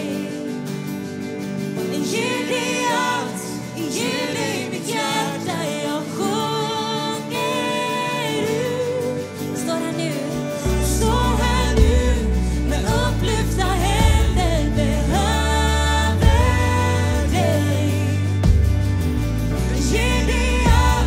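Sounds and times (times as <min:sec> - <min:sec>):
worship band playing: 0:00.0 - 0:21.0
woman singing: 0:01.9 - 0:18.4, 0:19.7 - 0:21.0.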